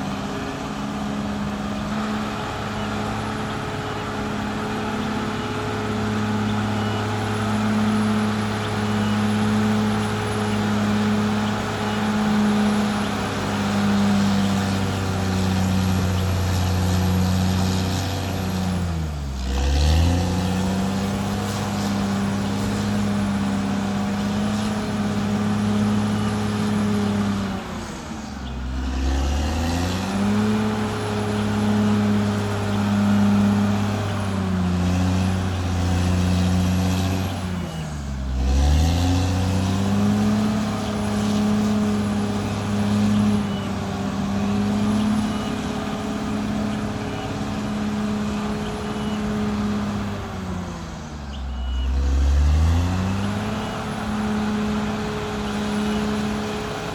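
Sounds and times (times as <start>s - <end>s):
bulldozer diesel engine revving: 0.0s - 56.9s.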